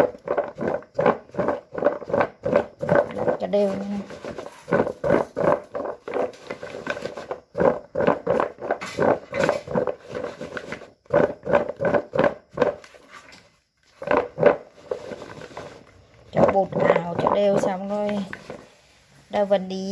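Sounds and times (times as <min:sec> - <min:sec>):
potatoes rattling in plastic bowl: 0:00.0 - 0:18.8.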